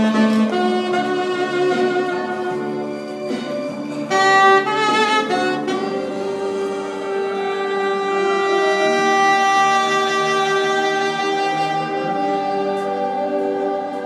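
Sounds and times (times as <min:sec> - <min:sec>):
jazz saxophone: 0:00.0 - 0:14.0.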